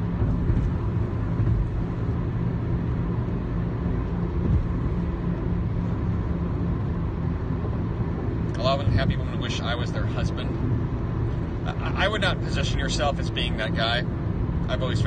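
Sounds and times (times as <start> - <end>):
car cabin road drone: 0.0 - 15.0.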